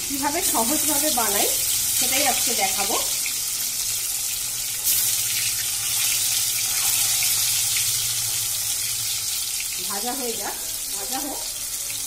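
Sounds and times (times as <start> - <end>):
eggs sizzling in hot oil: 0.0 - 12.0.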